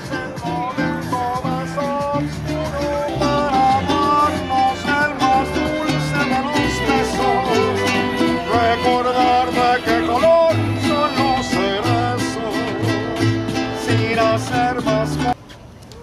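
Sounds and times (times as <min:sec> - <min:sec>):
acoustic country song: 0:00.0 - 0:15.4.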